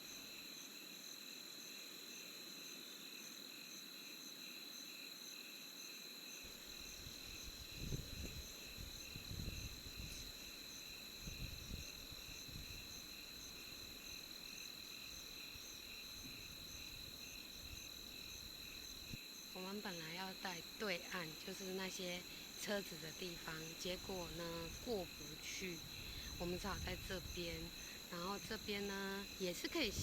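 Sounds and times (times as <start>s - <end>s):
insects chorus with pulsing trills: 0.0s - 30.0s.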